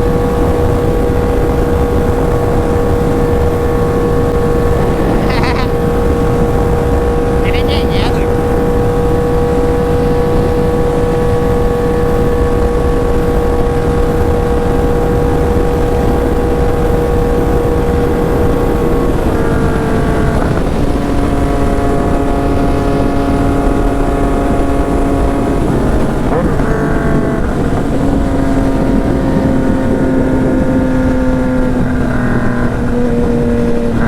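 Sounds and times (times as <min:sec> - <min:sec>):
motorcycle engine cruising: 0:00.0 - 0:34.0
wind and road noise: 0:00.0 - 0:34.0.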